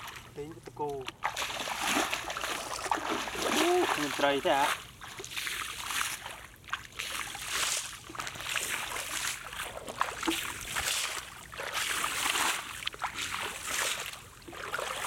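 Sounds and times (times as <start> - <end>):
bare feet splashing in water: 0.0 - 15.0.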